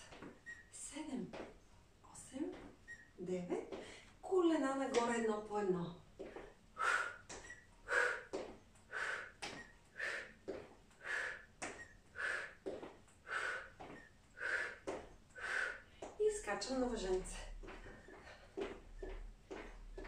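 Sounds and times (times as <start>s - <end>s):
sneakers tapping on tiled floor: 0.0s - 2.8s, 3.4s - 20.0s.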